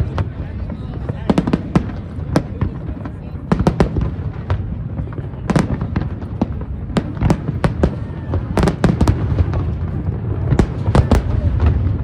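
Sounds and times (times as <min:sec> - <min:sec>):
low rumble of echoing reports: 0:00.0 - 0:12.0.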